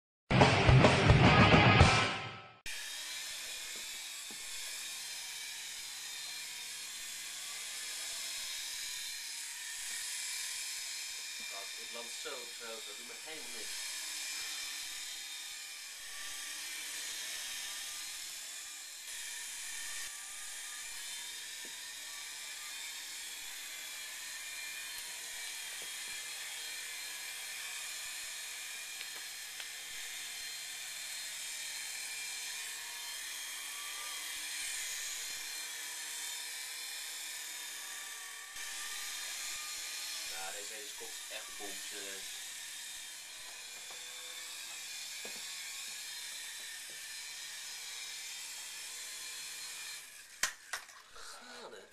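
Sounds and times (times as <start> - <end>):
toy helicopter rotor whine: 2.7 - 51.9.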